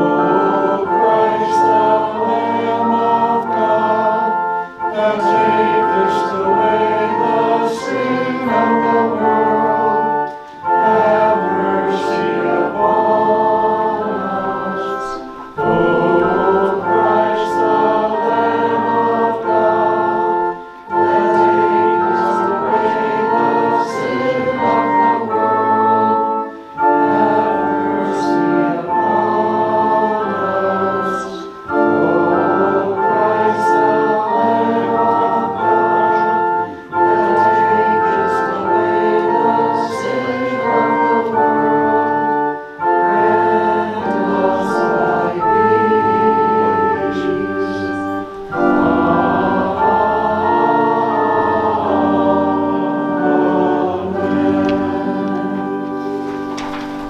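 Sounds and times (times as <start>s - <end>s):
congregation singing: 0.0s - 57.0s
organ playing a hymn: 0.0s - 57.0s.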